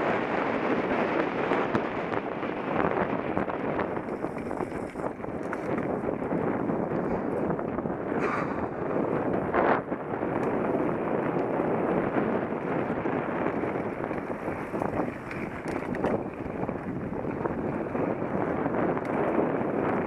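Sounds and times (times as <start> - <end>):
bike tyre noise and rattling: 0.0 - 20.0
wind buffeting microphone: 0.0 - 20.0.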